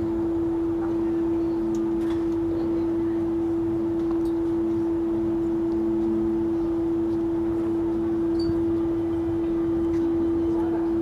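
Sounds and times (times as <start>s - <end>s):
loud steady hum: 0.0s - 11.0s.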